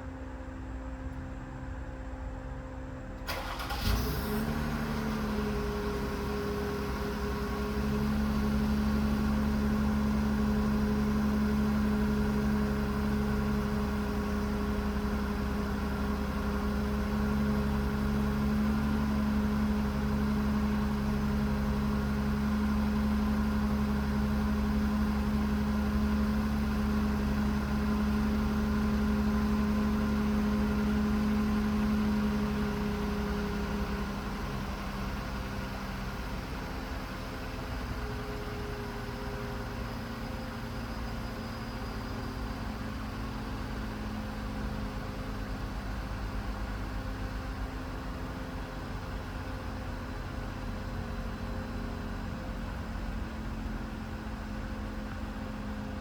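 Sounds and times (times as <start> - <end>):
car engine starting and idling: 3.0 - 56.0.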